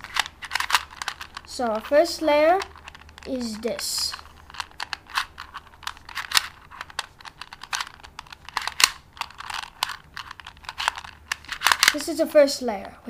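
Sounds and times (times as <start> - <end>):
puzzle cube clicking: 0.0 - 12.1.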